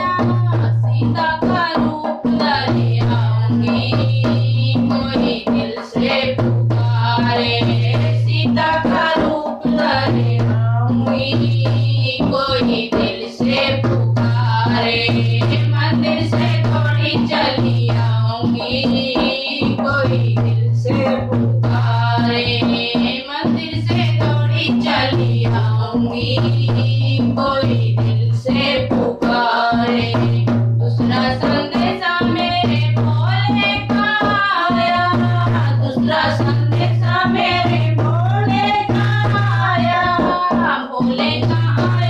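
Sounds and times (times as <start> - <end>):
hand drum playing: 0.0 - 42.0
women singing devotional song: 0.0 - 42.0.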